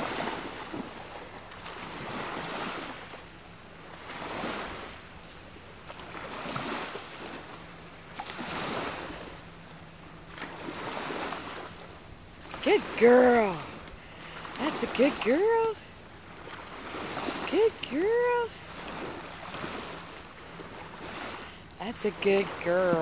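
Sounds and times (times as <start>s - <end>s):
small waves washing ashore: 0.0s - 23.0s.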